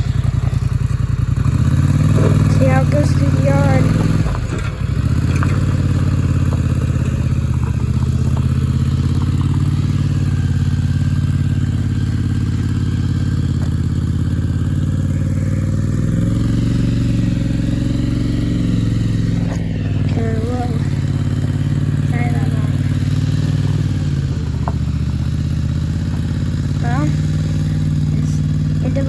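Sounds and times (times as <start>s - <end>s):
vehicle engine under load: 0.0s - 29.0s.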